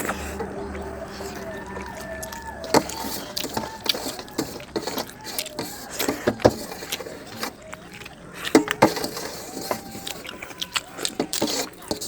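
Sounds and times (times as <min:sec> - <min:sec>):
food handled on a plate: 0:00.0 - 0:12.0
person chewing: 0:00.0 - 0:12.0.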